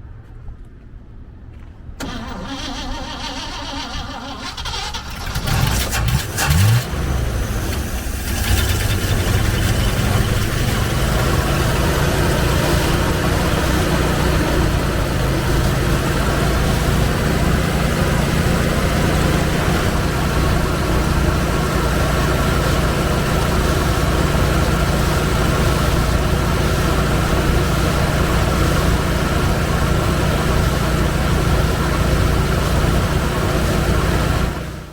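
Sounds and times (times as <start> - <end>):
truck engine idling: 2.0 - 34.9.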